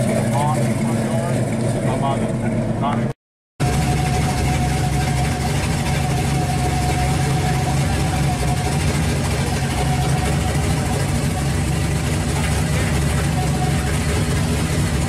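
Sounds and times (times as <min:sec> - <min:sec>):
car engine idling: 0:00.0 - 0:15.0
thin steady whine: 0:00.3 - 0:15.0.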